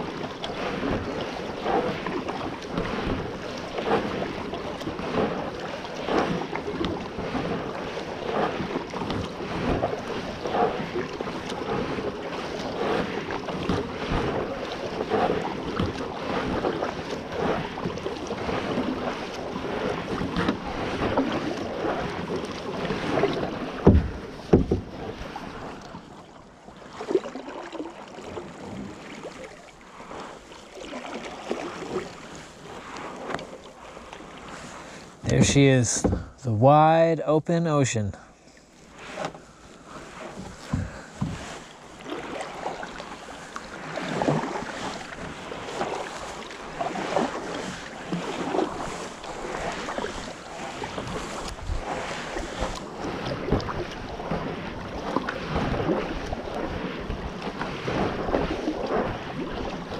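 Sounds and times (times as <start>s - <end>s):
gentle water sounds: 0.0s - 59.9s
paddle strokes splashing water: 0.0s - 59.9s.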